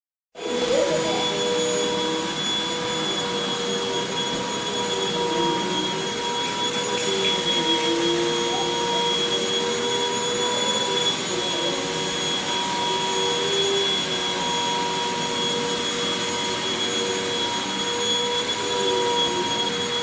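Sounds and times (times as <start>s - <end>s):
vacuum cleaner running: 0.4s - 20.0s.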